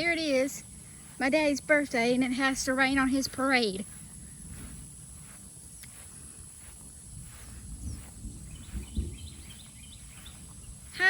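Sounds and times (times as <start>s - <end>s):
footsteps on driveway: 0.0s - 11.0s
wind rumble on microphone: 0.0s - 11.0s.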